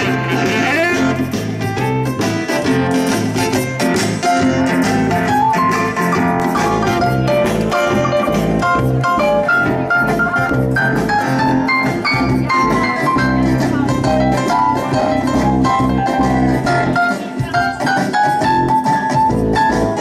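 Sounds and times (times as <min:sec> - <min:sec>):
electric keyboard solo: 0:00.0 - 0:20.0
jazz band playing: 0:00.0 - 0:20.0.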